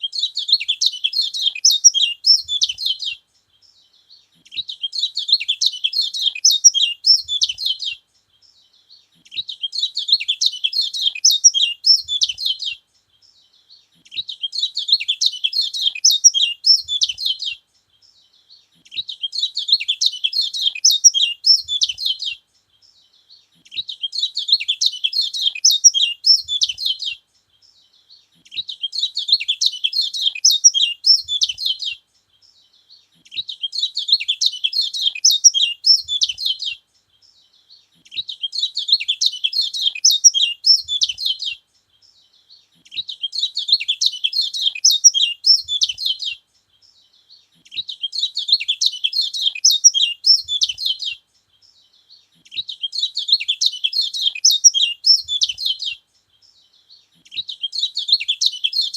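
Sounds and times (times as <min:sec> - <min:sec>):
songbird high twittering: 0:00.0 - 0:58.9.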